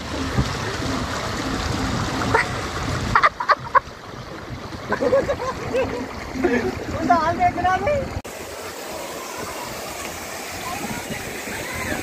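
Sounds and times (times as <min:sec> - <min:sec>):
water rushing down a slide: 0:00.0 - 0:12.0.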